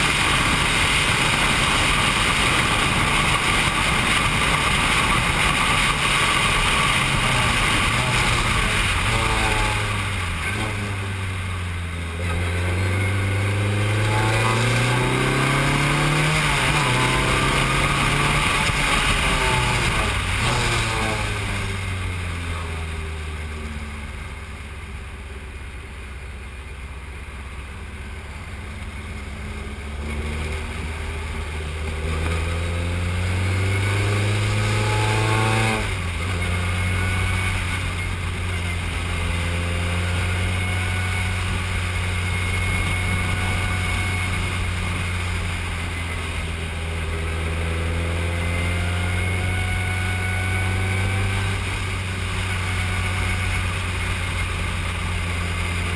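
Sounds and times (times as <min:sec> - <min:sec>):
race car engine at speed: 0:00.0 - 0:55.9.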